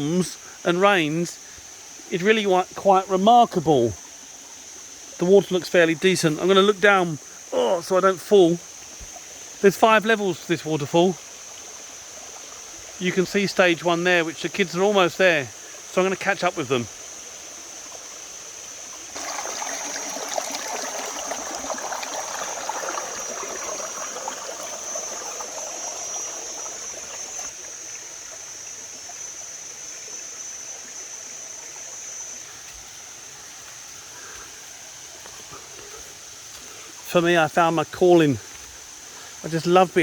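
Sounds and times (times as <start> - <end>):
high-pitched insect drone: 0.0 - 40.0.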